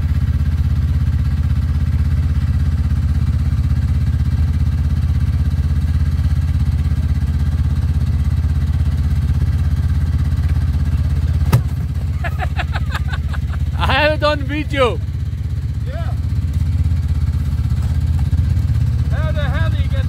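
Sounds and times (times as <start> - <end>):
snowmobile engine idling: 0.0 - 20.0.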